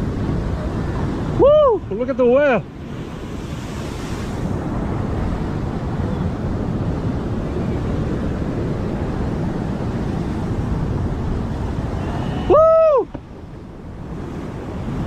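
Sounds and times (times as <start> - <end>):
surf washing against rocks: 0.0 - 15.0
wind buffeting microphone: 0.0 - 15.0.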